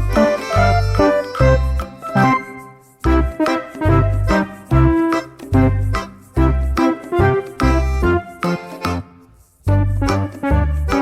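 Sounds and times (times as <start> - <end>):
upbeat keyboard music: 0.0 - 11.0.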